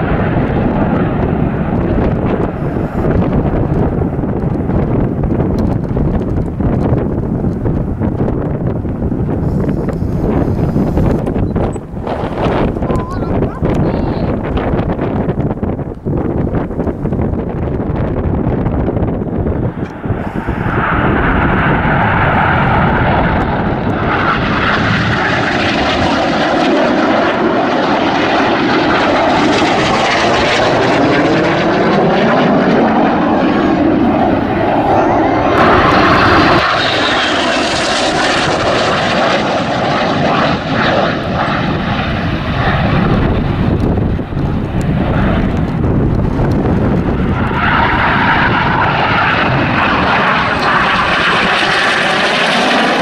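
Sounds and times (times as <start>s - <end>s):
jets passing overhead: 0.0s - 53.0s.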